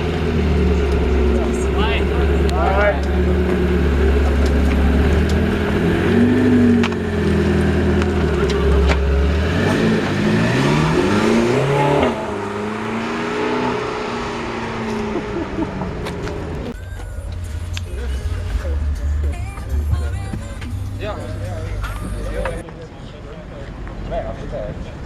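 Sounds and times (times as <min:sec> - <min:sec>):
car engine running: 0:00.0 - 0:22.6.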